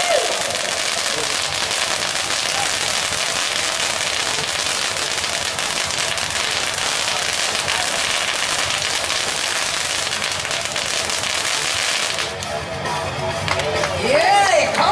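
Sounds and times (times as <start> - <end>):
fireworks crackling and hissing: 0.0 - 12.6.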